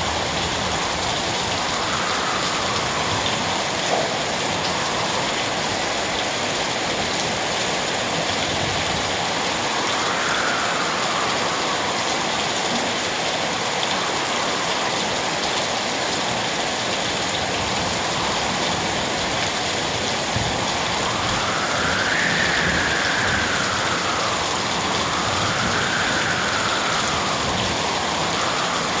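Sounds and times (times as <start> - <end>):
steady rain hissing: 0.0 - 29.0.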